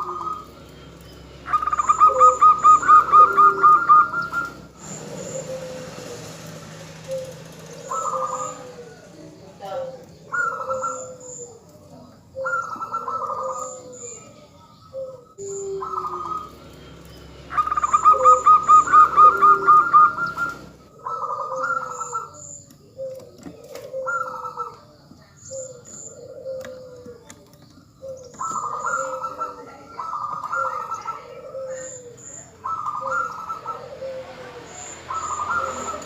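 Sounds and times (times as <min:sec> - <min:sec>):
doves cooing: 0:00.0 - 0:36.0
small birds chirping: 0:00.0 - 0:36.0.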